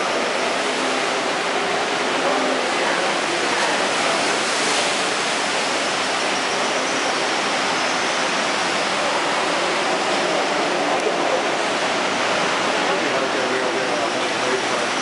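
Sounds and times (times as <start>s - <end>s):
ocean surf washing over rocks: 0.0s - 15.0s.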